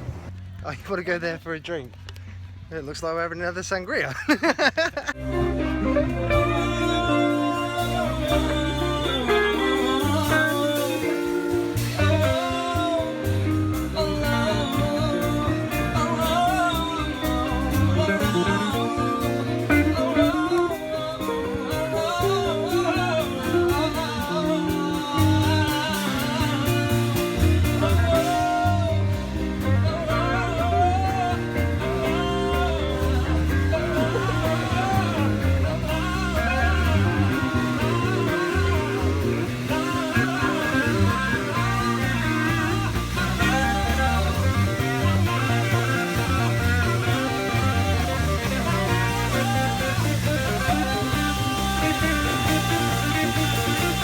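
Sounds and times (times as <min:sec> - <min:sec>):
song with guitar and vocals: 0:05.1 - 0:54.0.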